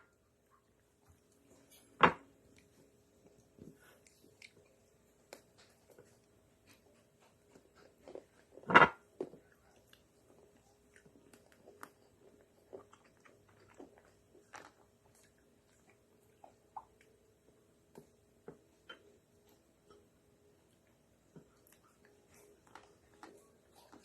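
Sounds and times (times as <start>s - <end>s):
soft chewing: 0.1s - 24.0s.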